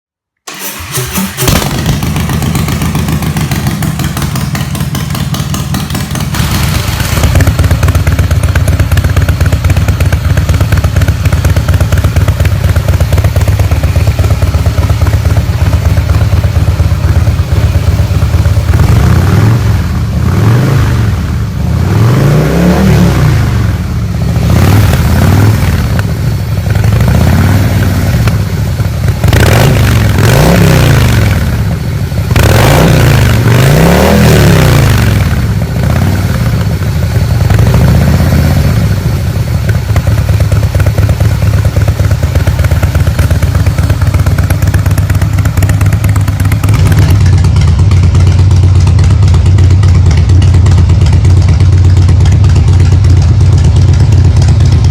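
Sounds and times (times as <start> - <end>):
motorcycle engine idling: 0.5 - 20.4, 23.6 - 30.3, 30.9 - 32.4, 34.8 - 54.9
motorcycle engine revving: 0.5 - 54.9.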